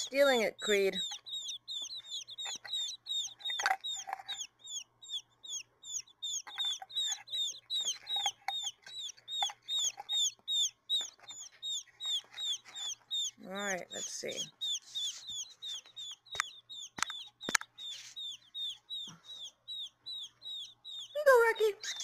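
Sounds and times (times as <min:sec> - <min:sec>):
baby quail peeping: 0:00.0 - 0:22.0.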